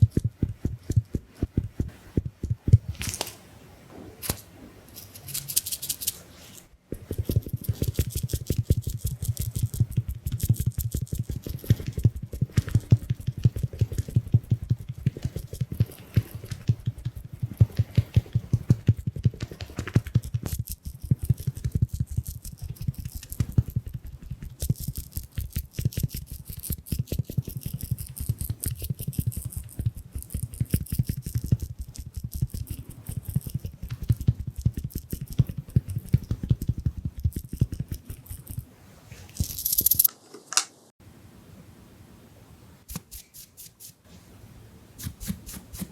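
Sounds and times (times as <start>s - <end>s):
makeup sponge patting: 0.0s - 3.4s, 5.4s - 39.8s, 45.0s - 45.9s.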